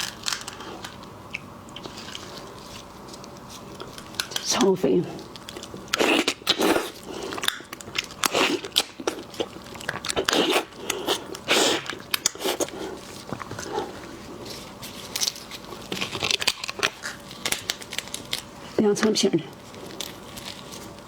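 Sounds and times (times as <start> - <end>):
crunching and chewing food: 0.0 - 21.0.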